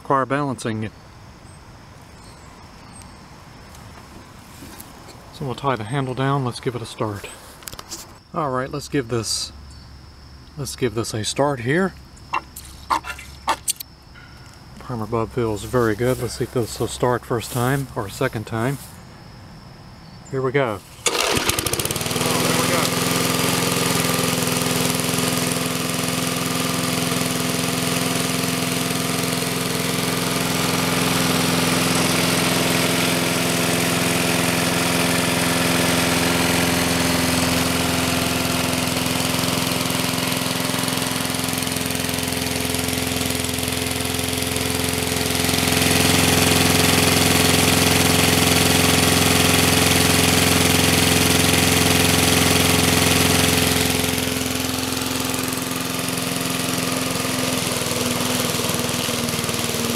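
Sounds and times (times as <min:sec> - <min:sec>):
lawn mower engine running: 0:03.7 - 0:08.2, 0:14.4 - 0:19.0, 0:20.6 - 0:59.9.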